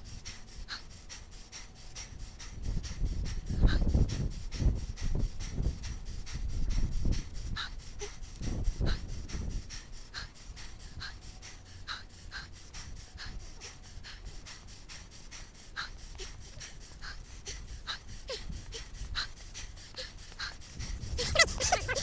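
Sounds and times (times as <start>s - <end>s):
cyclist panting hard: 0.0s - 22.0s
low rumble of wind and tyre: 0.0s - 22.0s.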